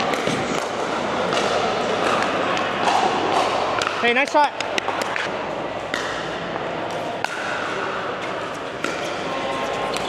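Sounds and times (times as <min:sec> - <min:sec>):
ball bouncing: 0:00.0 - 0:10.0
steady background noise: 0:00.0 - 0:10.0.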